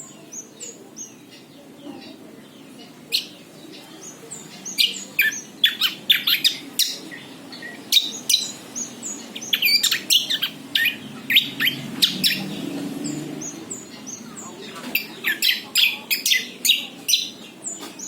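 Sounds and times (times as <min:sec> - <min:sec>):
bird chirping rapidly: 0:03.1 - 0:17.8.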